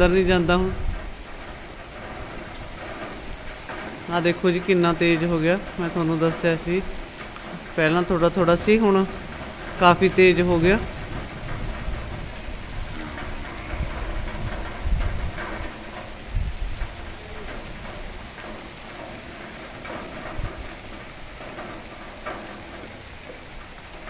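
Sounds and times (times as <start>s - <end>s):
low thumps: 0.0s - 23.0s
heavy rain on dirt: 0.0s - 24.0s.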